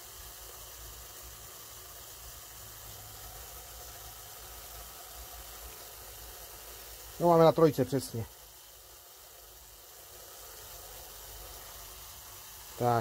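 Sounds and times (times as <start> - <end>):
aerosol generator hissing: 0.0 - 13.0.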